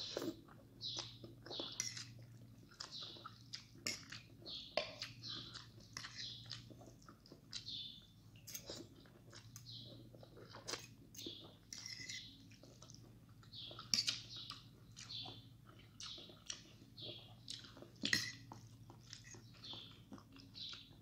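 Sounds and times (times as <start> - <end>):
wet chewing and mouth clicks: 0.0 - 21.0.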